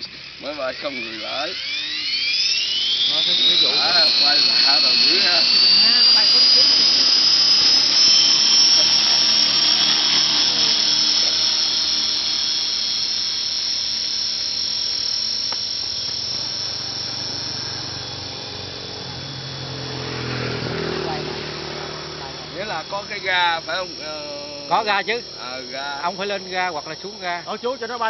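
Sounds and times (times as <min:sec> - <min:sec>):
model helicopter rotor whine: 0:00.0 - 0:28.0.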